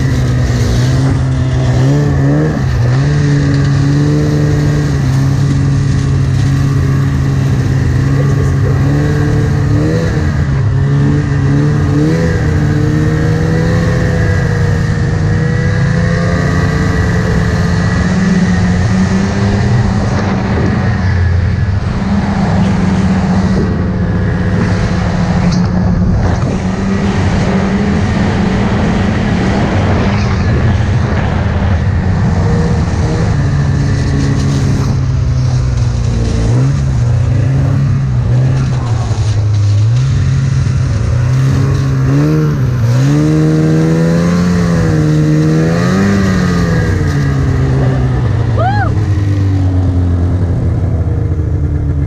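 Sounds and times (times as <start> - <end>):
snowmobile engine running: 0.0 - 52.0.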